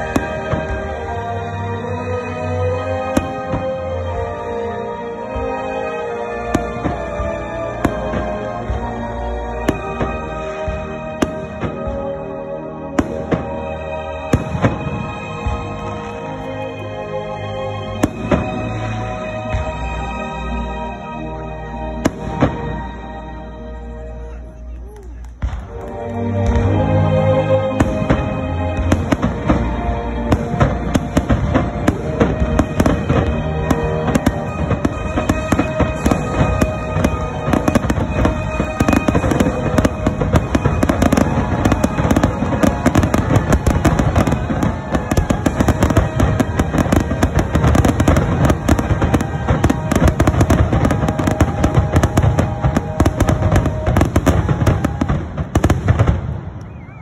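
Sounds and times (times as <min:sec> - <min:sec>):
fireworks bursting and crackling: 0:00.0 - 0:20.6, 0:22.0 - 0:23.0, 0:24.6 - 0:26.8, 0:27.6 - 0:57.0
music playing: 0:00.0 - 0:57.0.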